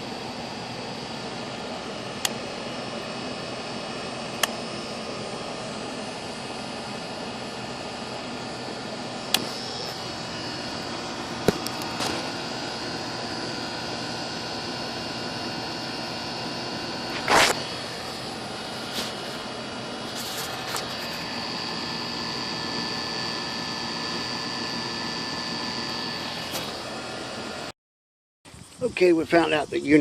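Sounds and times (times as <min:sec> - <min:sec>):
air conditioner unit running: 0:00.0 - 0:27.7.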